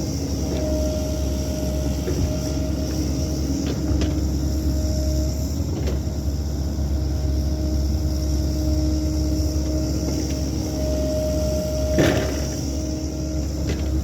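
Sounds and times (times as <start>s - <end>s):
excavator diesel engine running: 0.0s - 14.0s
hydraulic whine: 0.0s - 14.0s.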